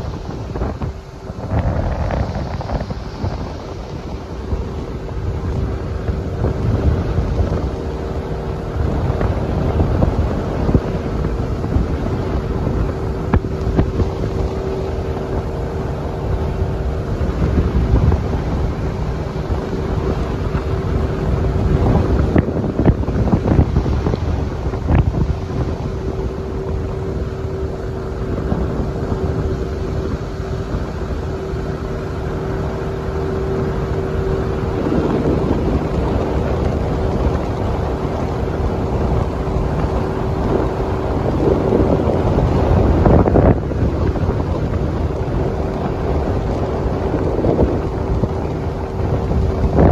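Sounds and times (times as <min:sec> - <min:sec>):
boat motor running: 0:00.0 - 0:49.9
wind buffeting microphone: 0:00.0 - 0:49.9.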